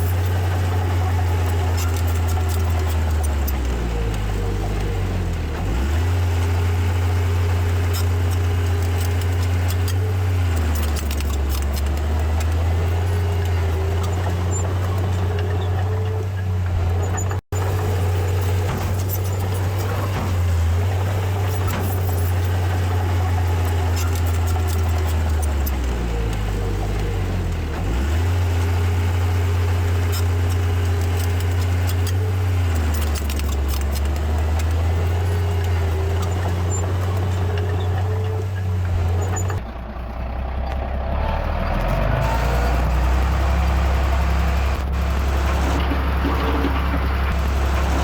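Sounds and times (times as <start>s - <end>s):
metallic clicks and clanks: 0.0s - 39.6s, 42.2s - 48.0s
heavy diesel engine running: 0.0s - 48.0s.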